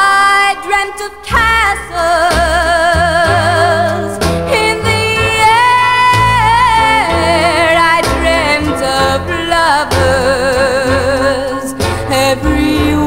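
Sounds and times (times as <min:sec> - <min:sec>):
girl singing with vibrato: 0:00.0 - 0:13.0
instrumental backing music: 0:00.4 - 0:13.0.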